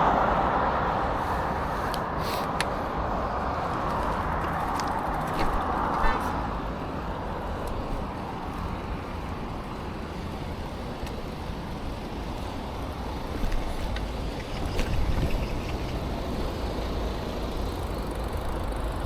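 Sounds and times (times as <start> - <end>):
passing vehicle: 0.0 - 19.0
road traffic: 0.0 - 19.0
wind and tyre rumble: 0.0 - 19.0.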